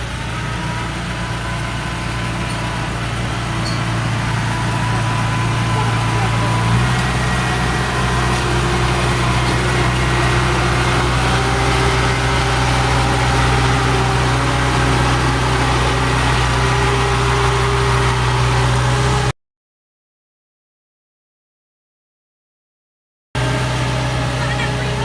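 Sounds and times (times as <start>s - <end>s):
farm machine engine running: 0.0s - 19.3s, 23.4s - 25.0s.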